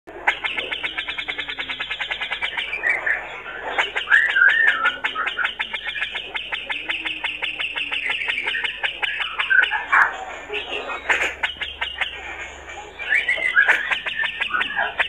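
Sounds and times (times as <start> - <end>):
bird singing chattering notes: 0.1 - 15.0
bird warbled phrase: 0.1 - 15.0.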